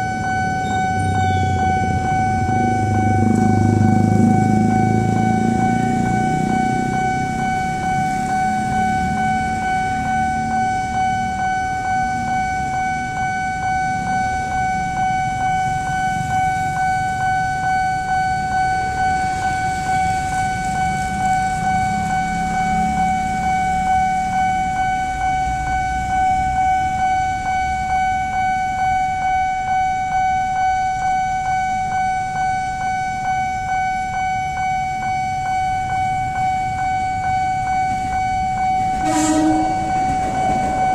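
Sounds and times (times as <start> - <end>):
road traffic rumble: 0.0 - 30.1, 31.1 - 40.9
level-crossing alarm ringing: 0.0 - 40.9.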